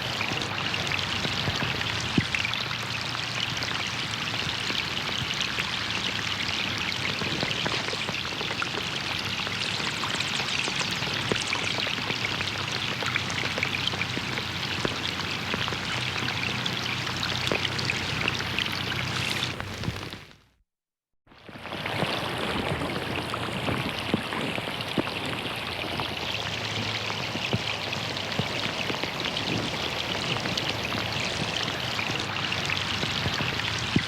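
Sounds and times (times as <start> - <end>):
flowing water: 0.0 - 20.4, 21.3 - 34.0
rain patter on water: 0.0 - 20.4, 21.3 - 34.0.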